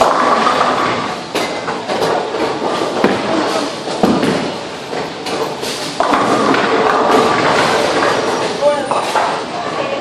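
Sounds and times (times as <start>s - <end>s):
bowling pins crashing: 0.0s - 9.4s
bowling ball rolling: 0.0s - 10.0s.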